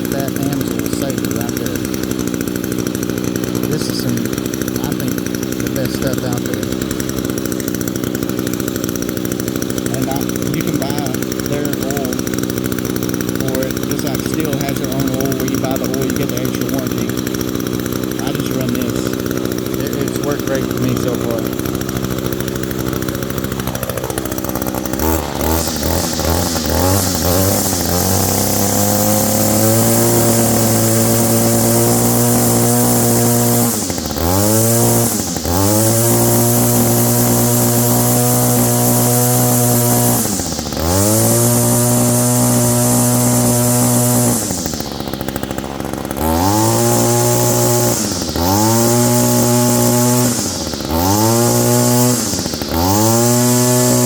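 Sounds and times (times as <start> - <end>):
string trimmer engine revving: 0.0 - 54.0.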